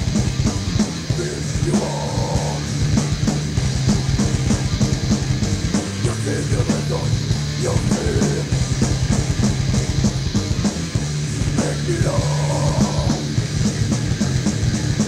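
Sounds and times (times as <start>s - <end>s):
distorted electric guitars: 0.0s - 15.0s
driving drum-kit beat: 0.0s - 15.0s
harsh mid-range layer: 0.0s - 15.0s.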